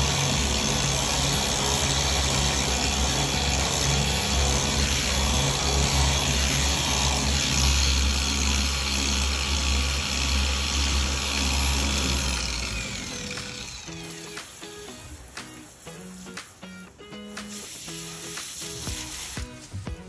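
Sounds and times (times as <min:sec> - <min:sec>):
power tool motor running: 0:00.0 - 0:16.2.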